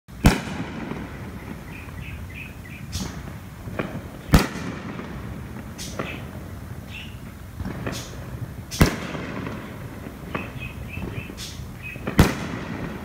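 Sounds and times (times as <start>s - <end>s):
fireworks bangs: 0.1s - 13.0s.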